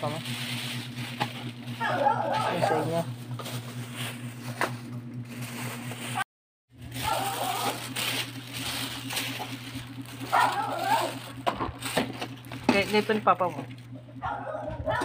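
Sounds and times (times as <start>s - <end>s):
paper and plastic crinkling: 0.0s - 6.2s, 6.8s - 14.0s
steady low hum: 0.0s - 6.2s, 6.8s - 15.0s.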